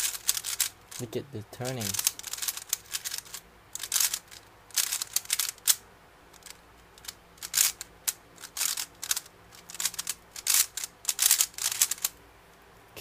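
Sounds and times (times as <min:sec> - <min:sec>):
puzzle cube plastic clicking: 0:00.0 - 0:01.1, 0:01.7 - 0:05.8, 0:06.4 - 0:12.2.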